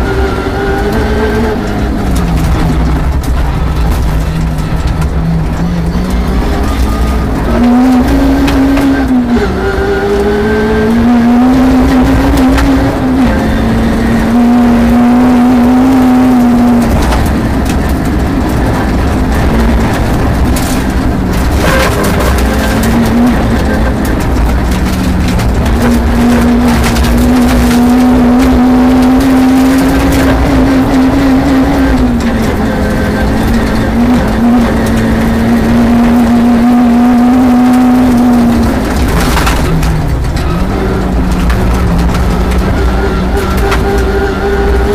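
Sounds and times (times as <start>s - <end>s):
rally car engine at high revs: 0.0s - 44.9s.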